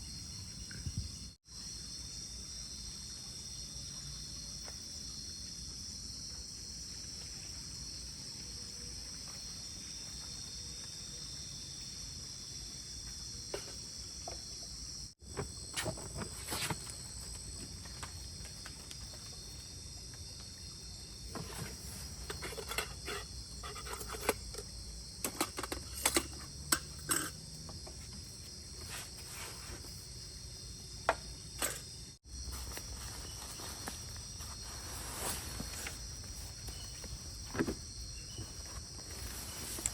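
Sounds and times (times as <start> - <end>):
night insects chorus: 0.0 - 39.9.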